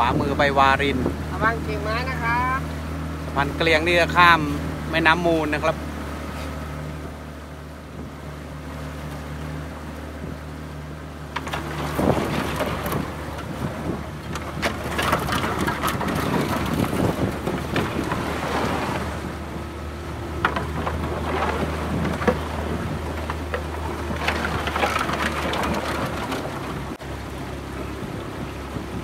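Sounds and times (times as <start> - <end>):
boat motor hum: 0.0 - 29.0
water splashing against hull: 0.0 - 29.0.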